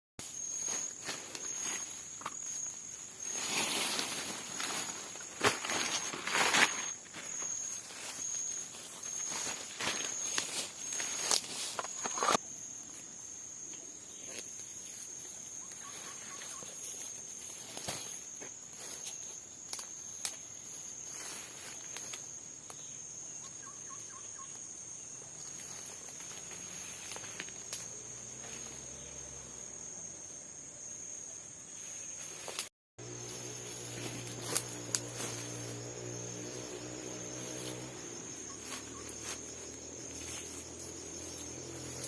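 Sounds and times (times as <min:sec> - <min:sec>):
insects trilling: 0:00.2 - 0:42.0.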